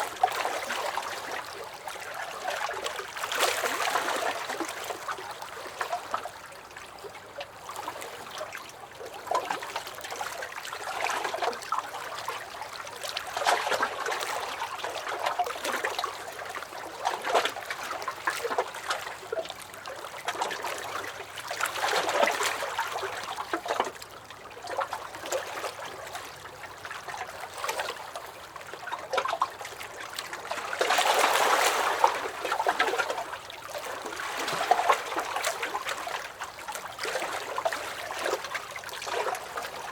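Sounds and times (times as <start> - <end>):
waves lapping against a dock: 0.0 - 39.9.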